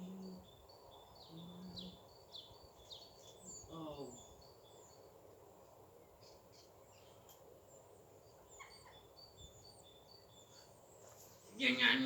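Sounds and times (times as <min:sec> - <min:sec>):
distant songbirds chirping: 0:00.0 - 0:12.0.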